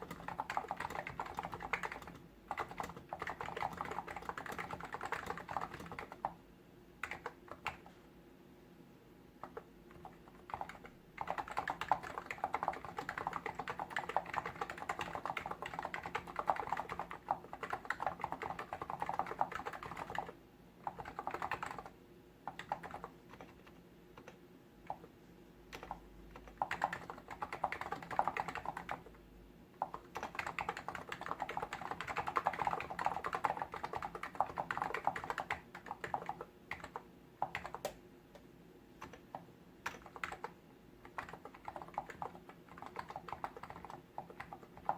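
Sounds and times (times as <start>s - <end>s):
rapid keyboard typing: 0.0s - 6.4s, 7.0s - 8.0s, 9.4s - 29.2s, 29.8s - 38.0s, 39.0s - 44.9s.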